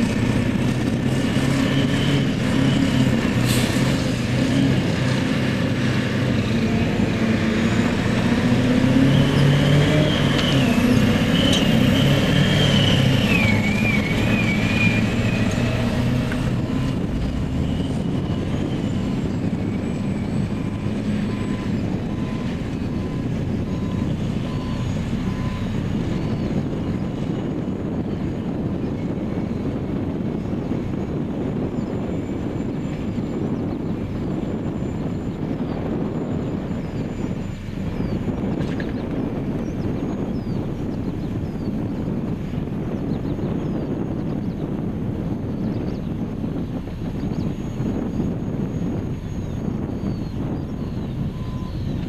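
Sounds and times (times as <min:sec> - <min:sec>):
diesel engine driving past: 0:00.0 - 0:52.0.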